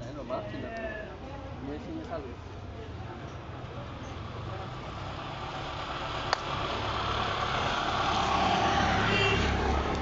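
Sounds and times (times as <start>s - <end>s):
passing motor traffic: 1.3s - 10.0s.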